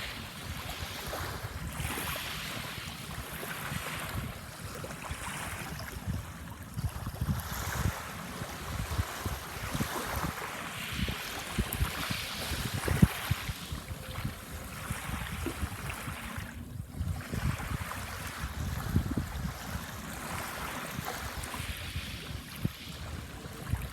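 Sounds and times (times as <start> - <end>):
sea waves washing ashore: 0.0 - 23.9
wind buffeting microphone: 0.0 - 23.9.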